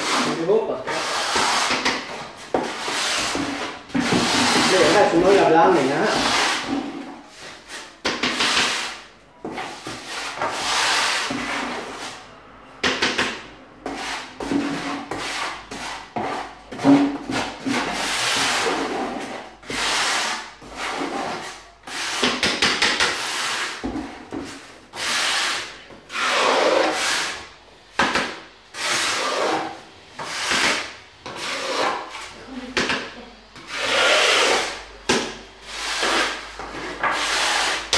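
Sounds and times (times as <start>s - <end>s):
trowel scraping adhesive in bucket: 0.0s - 12.3s, 13.8s - 27.6s, 28.7s - 32.4s, 33.6s - 34.9s, 35.6s - 37.9s.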